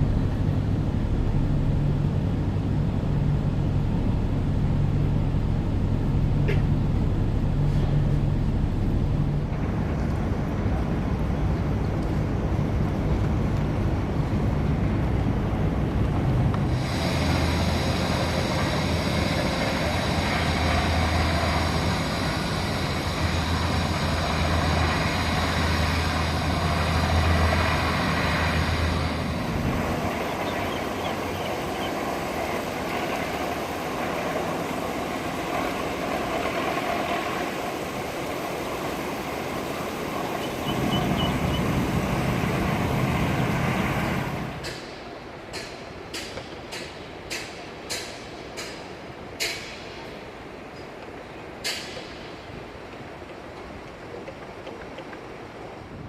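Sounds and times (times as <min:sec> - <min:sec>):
ferry engines humming and whining: 0:00.0 - 0:56.0.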